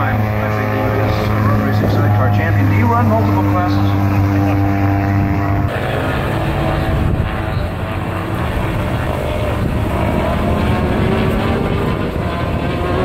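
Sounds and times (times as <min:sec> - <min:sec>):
racing motorcycle engines at speed: 0:00.0 - 0:13.0.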